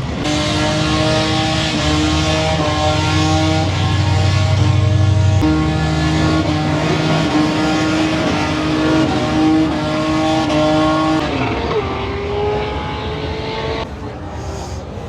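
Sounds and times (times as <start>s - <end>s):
car engine at high revs: 0.0s - 13.9s.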